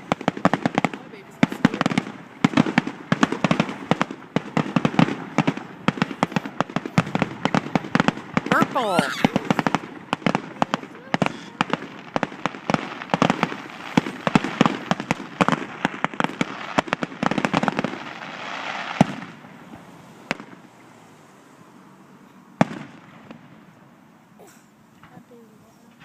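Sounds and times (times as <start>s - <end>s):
fireworks popping and banging: 0.0s - 20.8s, 22.6s - 26.0s
fireworks hissing: 0.0s - 21.6s.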